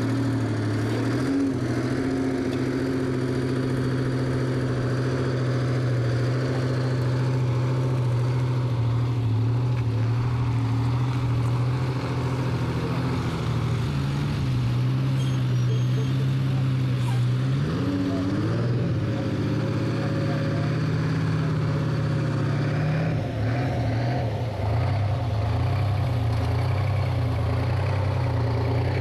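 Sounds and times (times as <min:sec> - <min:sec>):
truck diesel engine driving off: 0:00.0 - 0:29.0.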